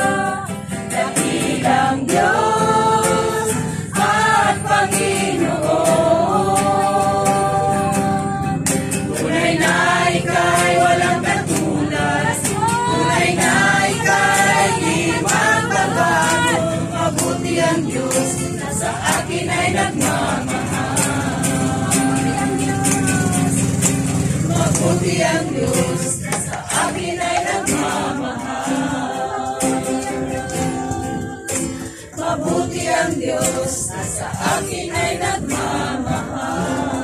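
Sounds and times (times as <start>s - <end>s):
group singing worship song: 0.0s - 37.0s
strummed acoustic guitar: 0.0s - 37.0s.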